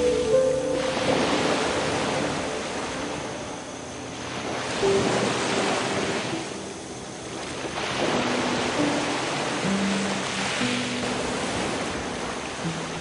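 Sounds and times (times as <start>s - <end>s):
faint held music notes: 0.0s - 13.0s
rough sea surf breaking: 0.0s - 13.0s.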